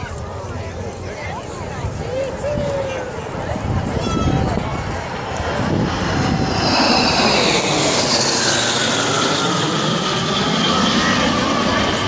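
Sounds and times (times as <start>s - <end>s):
jet engines flying over: 0.0s - 12.0s.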